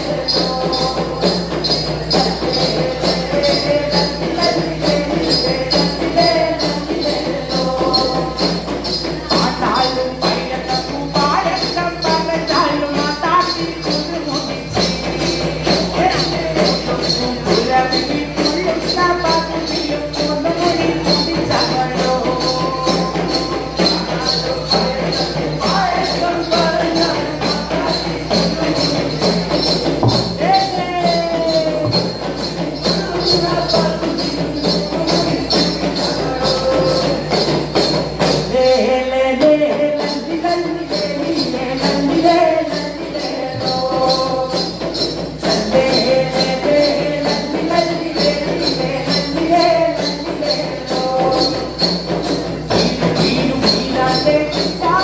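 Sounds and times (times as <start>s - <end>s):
group of young men singing: 0.0s - 55.0s
hand cymbals ringing: 0.0s - 55.0s
hand drum beat: 0.0s - 55.0s.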